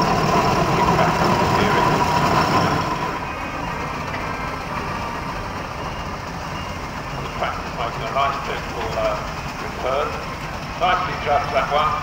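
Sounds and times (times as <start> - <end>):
steady whine: 0.0 - 12.0
steam roller mechanical rumble: 0.0 - 12.0.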